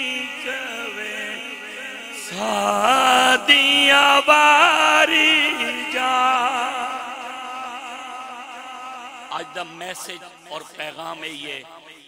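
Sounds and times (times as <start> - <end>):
man singing religious recitation: 0.0 - 12.0.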